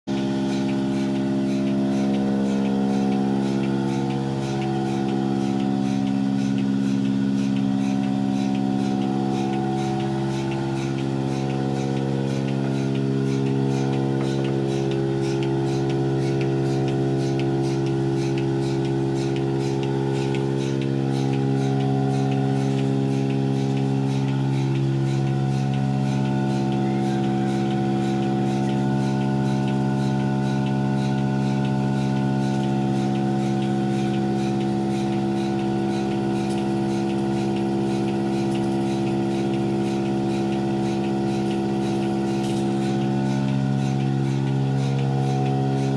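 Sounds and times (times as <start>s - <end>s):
motor running: 0.0s - 45.9s
faint regular ticking: 0.1s - 45.9s.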